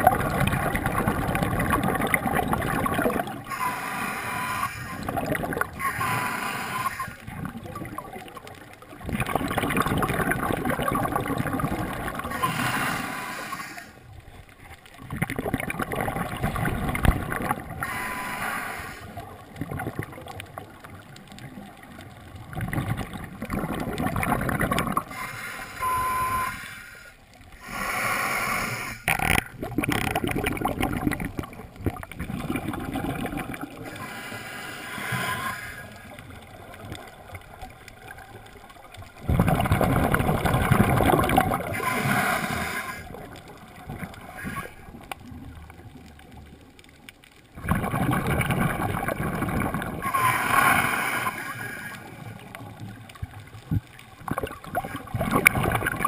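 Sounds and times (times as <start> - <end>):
underwater bubbles gurgling: 0.0 - 56.0.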